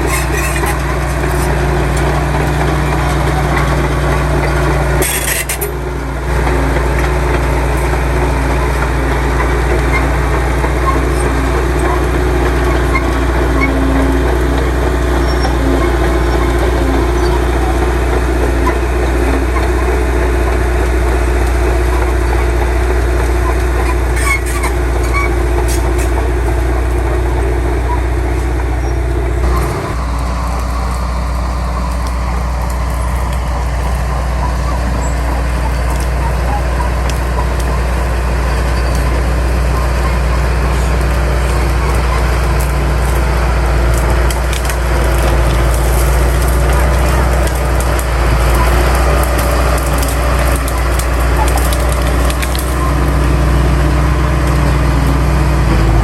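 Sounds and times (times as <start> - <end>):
heavy diesel machinery engine hum: 0.0 - 56.0.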